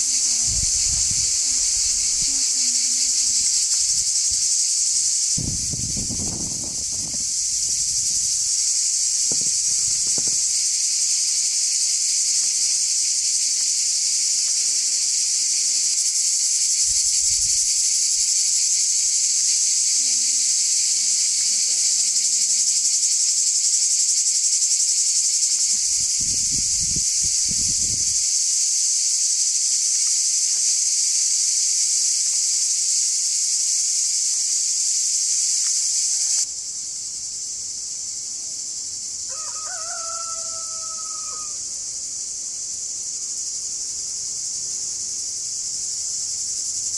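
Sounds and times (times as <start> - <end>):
insects shrilling: 0.0 - 46.9.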